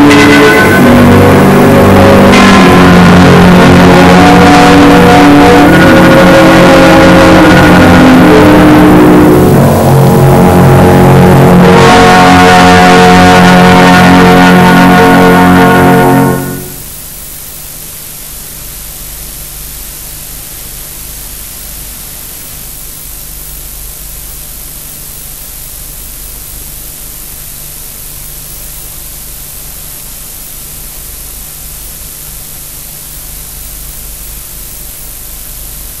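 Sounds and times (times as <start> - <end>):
film soundtrack hiss and hum: 0.0 - 36.0.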